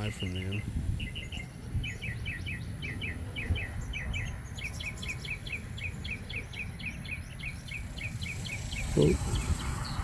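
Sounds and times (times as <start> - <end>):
low wind-like rumble: 0.0 - 10.0
small bird chirping: 0.0 - 10.0.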